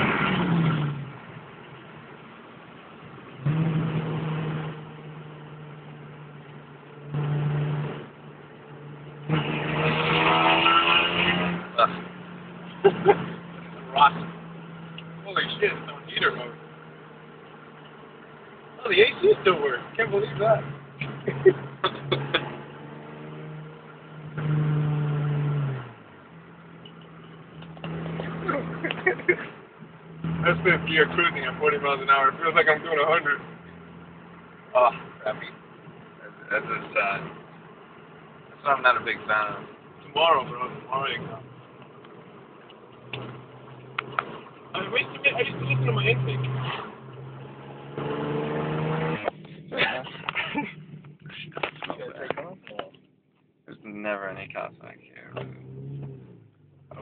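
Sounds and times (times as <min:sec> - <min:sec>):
car engine and exhaust revving: 0:00.0 - 0:57.0.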